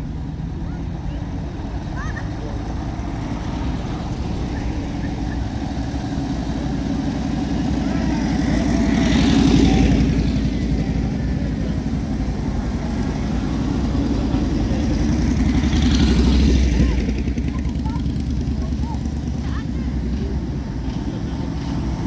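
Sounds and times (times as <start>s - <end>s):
military vehicle engines passing: 0.0s - 22.0s.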